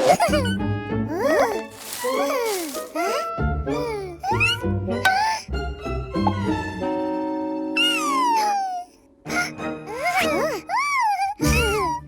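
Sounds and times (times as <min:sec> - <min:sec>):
children's cartoon music: 0:00.0 - 0:12.0.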